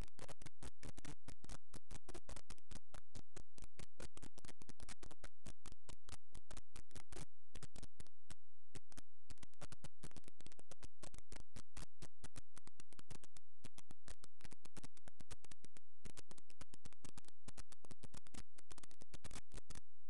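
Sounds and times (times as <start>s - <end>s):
crackling static: 0.0s - 20.0s
faint low hum: 0.0s - 20.0s.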